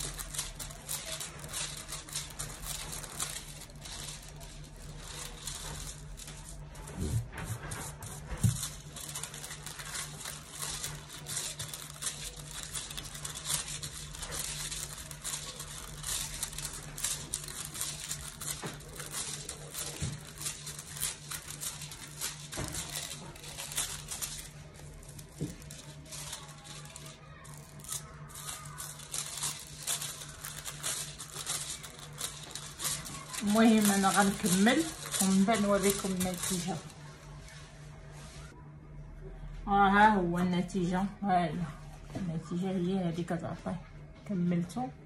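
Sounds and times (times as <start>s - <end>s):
foil crinkling and rustling: 0.0s - 37.8s.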